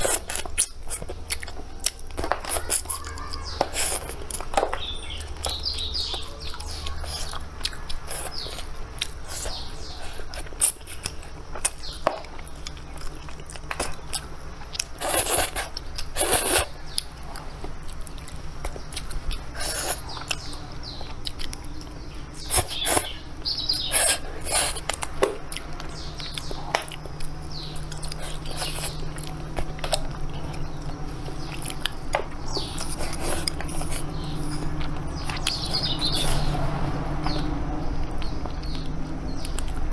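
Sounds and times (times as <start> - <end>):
birds chirping: 0.0 - 39.9
chewing and crunching food: 0.0 - 39.9
steady low hum: 0.0 - 39.9.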